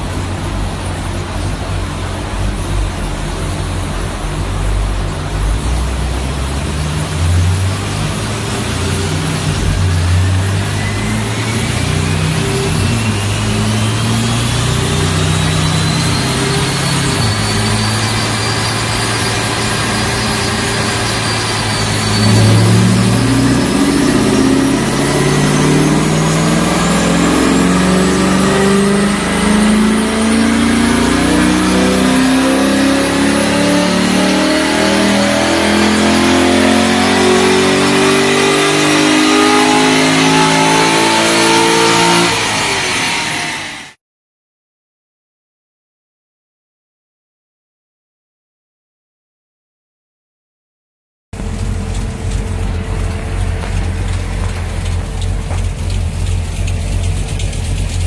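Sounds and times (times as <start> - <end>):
car engine revving: 0.0 - 44.0, 51.4 - 58.0
high whine: 0.0 - 44.0, 51.4 - 58.0.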